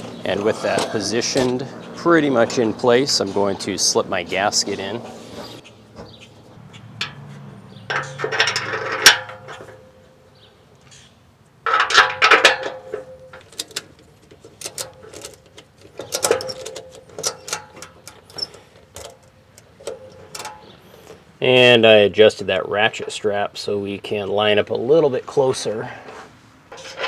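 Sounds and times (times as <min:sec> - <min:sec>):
exhaust pipe clanking and scraping: 0:00.0 - 0:11.0, 0:11.6 - 0:23.7, 0:26.1 - 0:27.0.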